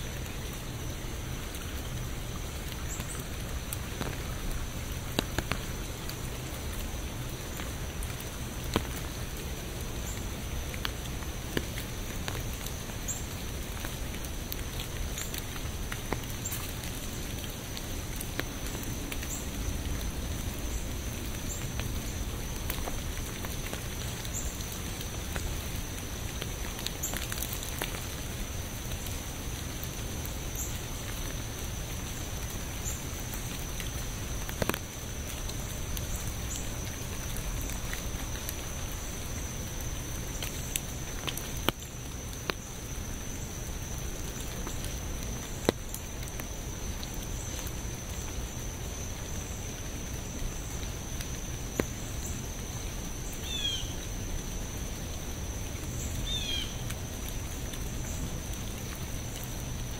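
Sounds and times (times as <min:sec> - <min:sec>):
rain falling: 0:00.0 - 0:59.9
raindrops ticking on a surface: 0:00.0 - 0:59.9.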